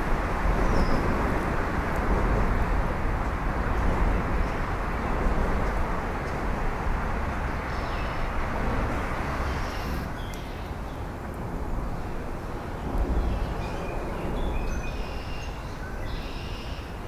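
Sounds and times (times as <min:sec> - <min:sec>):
traffic rumble on bridge: 0:00.0 - 0:17.0.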